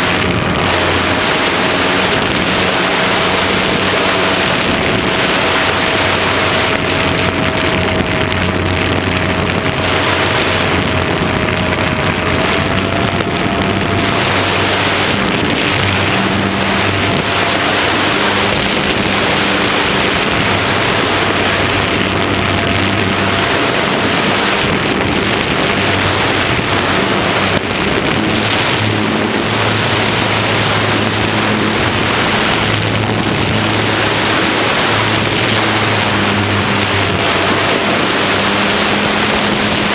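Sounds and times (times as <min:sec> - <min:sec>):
model plane motor whine: 0:00.0 - 0:39.9
wind on microphone: 0:00.0 - 0:39.9.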